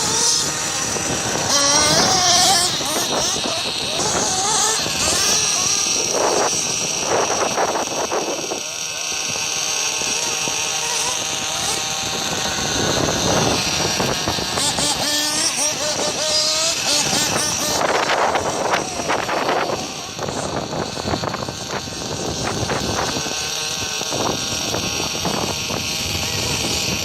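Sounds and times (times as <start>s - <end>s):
rc car engine whining: 0.0s - 27.0s.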